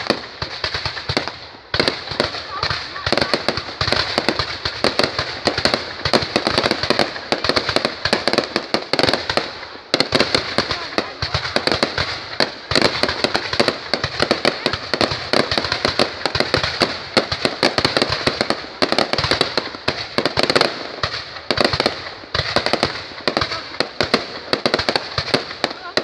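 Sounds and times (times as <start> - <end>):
fireworks cracking and popping: 0.0 - 26.0.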